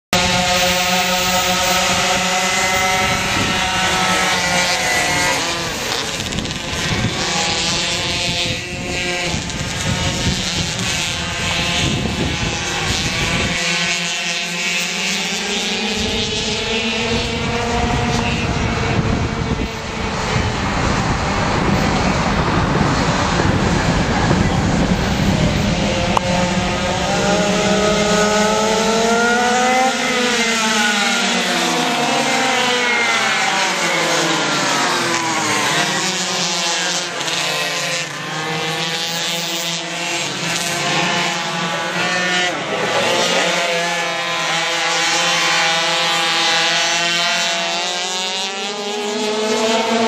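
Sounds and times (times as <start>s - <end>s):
small two-stroke engines revving: 0.1s - 50.0s.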